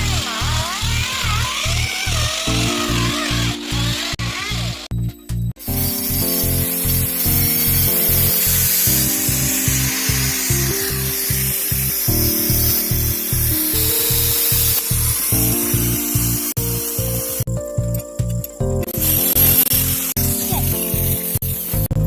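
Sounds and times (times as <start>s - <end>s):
power tool hissing: 0.0s - 5.0s, 5.6s - 18.0s, 18.8s - 22.0s
background music with beat: 0.0s - 22.0s.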